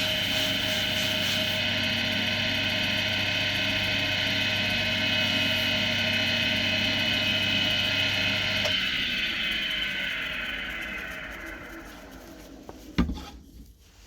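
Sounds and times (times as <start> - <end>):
wood lathe whining: 0.0 - 13.5.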